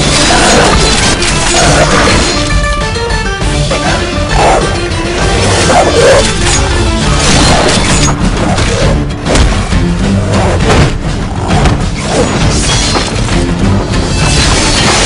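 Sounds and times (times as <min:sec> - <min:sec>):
crashes and booms of fighting: 0:00.0 - 0:02.8, 0:03.5 - 0:15.0
loud soundtrack music: 0:00.0 - 0:15.0.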